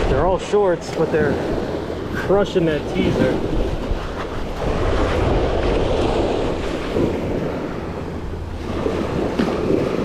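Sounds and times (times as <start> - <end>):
surf waves washing on sand: 0.0 - 10.0
wind noise on microphone: 1.1 - 10.0.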